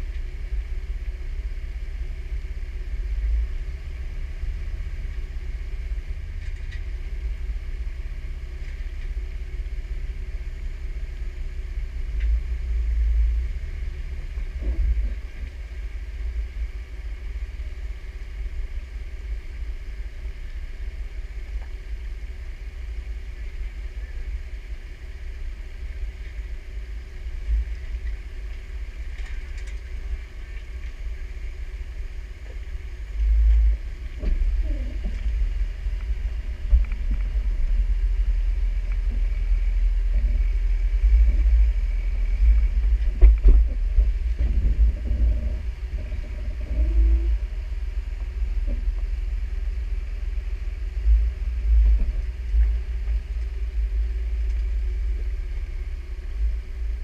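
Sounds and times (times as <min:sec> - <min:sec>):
low engine rumble: 0:00.0 - 0:57.0.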